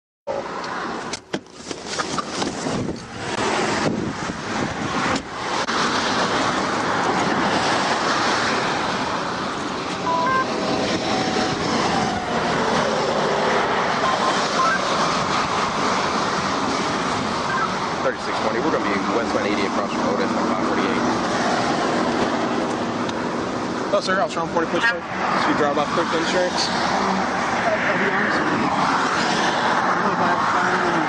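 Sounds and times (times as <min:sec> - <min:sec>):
highway traffic: 0:00.3 - 0:31.0.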